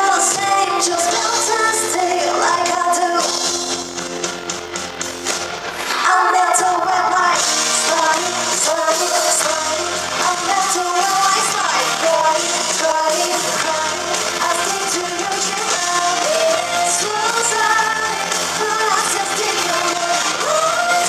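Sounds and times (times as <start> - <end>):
woman singing: 0.0 - 3.6, 5.9 - 21.0
full band pop music: 0.0 - 21.0.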